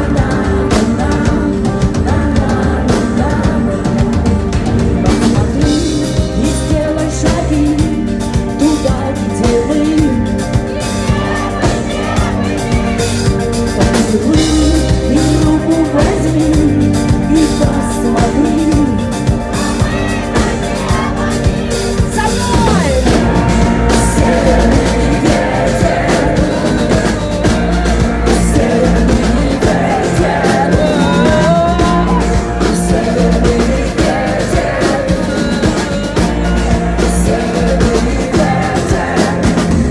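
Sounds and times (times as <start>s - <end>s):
bass guitar: 0.0s - 39.9s
drum kit: 0.0s - 39.9s
melodic guitar lines: 3.8s - 37.6s.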